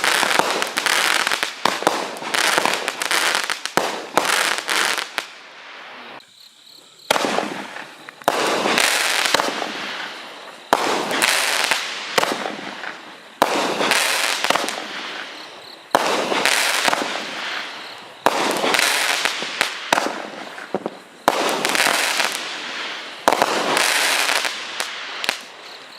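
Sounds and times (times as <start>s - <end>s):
firework bangs and crackles: 0.0s - 6.2s, 7.1s - 25.9s.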